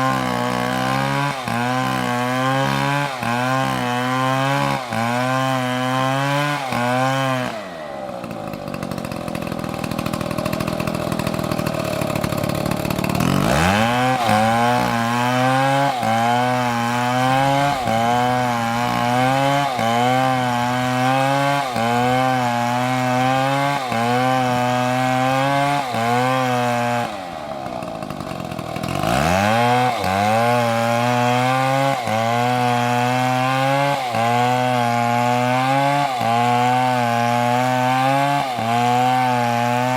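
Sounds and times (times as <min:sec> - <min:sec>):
chainsaw cutting tree: 0:00.0 - 0:39.9.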